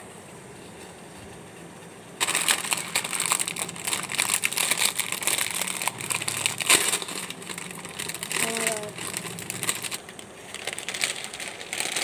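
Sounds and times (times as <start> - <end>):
plastic wrapper crinkling: 2.2 - 12.0.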